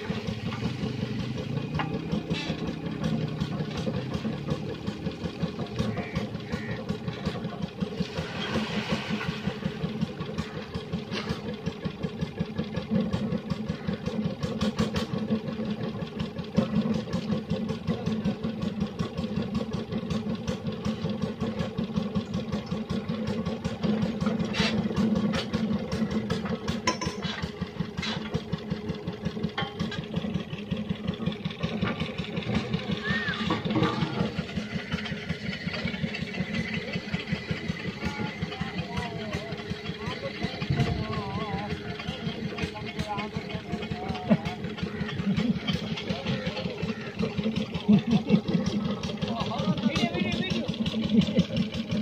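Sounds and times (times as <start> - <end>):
engine chugging: 0.0 - 52.0.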